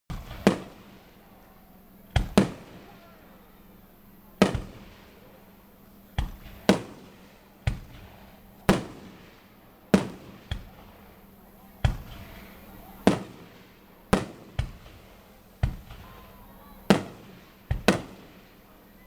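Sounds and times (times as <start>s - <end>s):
fireworks bangs: 0.1s - 19.0s.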